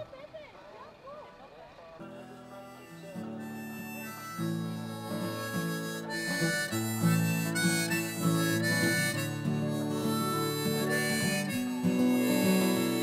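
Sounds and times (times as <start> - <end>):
guitar: 1.1 - 13.0
harmonica melody: 2.0 - 13.0.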